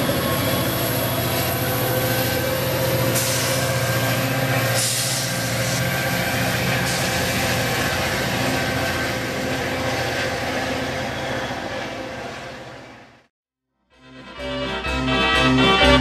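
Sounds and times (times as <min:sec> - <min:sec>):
diesel locomotive engine drone: 0:00.0 - 0:13.3, 0:14.1 - 0:16.0
wheels rumbling on rails: 0:00.0 - 0:13.3.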